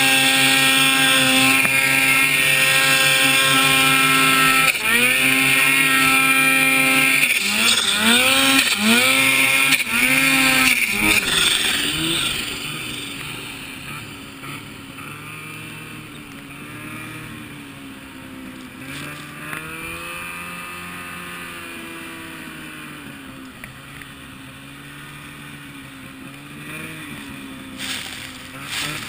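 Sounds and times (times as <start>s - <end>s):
snowmobile engine under load: 0.0s - 29.0s.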